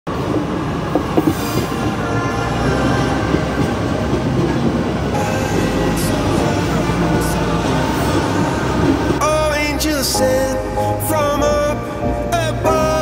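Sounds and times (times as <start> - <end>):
train wheels rumbling on rails: 0.1 - 13.0.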